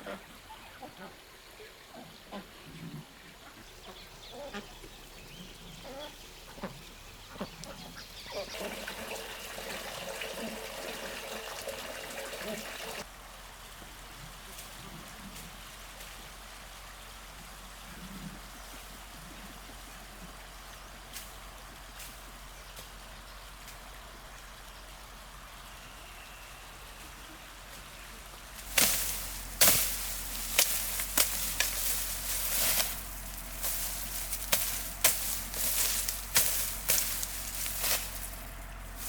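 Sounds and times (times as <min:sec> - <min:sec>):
flowing water hiss: 0:04.9 - 0:39.0.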